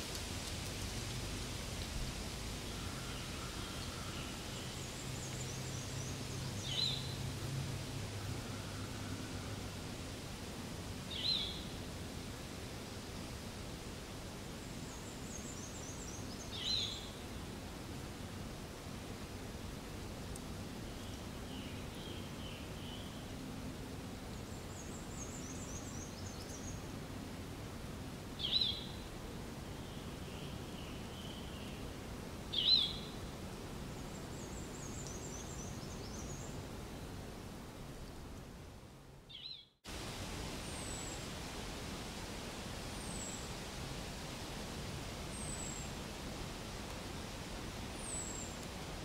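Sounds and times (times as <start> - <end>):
steady outdoor hiss: 0.0 - 49.0.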